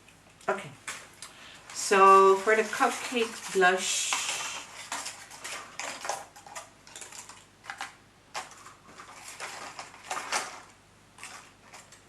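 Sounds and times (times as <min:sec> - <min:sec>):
rustles and clicks of flower stems: 0:00.0 - 0:12.0.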